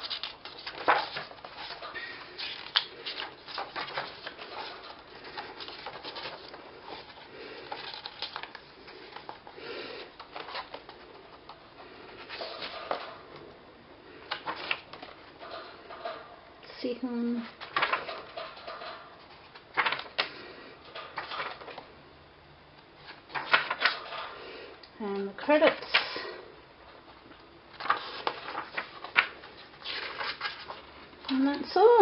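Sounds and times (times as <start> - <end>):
paper pages rustling: 0.0 - 13.3, 14.1 - 16.2, 17.5 - 21.9, 23.0 - 24.4, 27.0 - 31.6.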